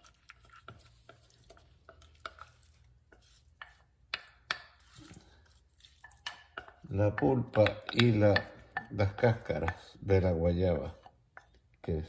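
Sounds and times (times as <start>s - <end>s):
utensil scraping glass bowl: 0.0s - 11.6s.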